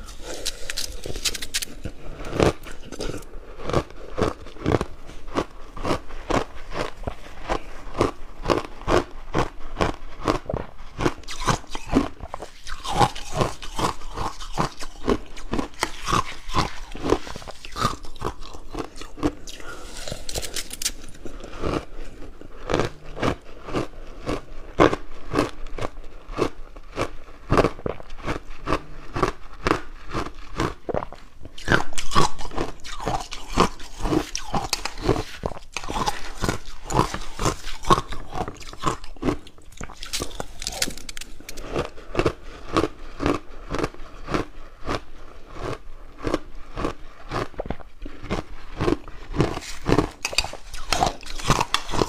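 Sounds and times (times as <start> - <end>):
crunchy biting and chewing: 0.0 - 52.0.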